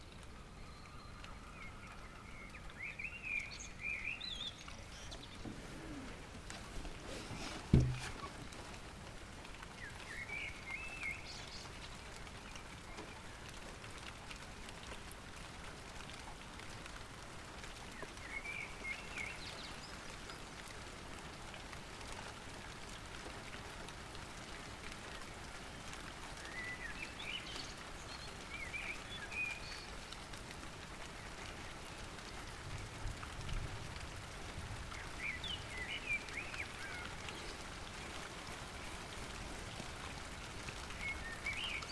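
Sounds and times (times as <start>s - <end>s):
light rain pattering: 0.0s - 41.9s.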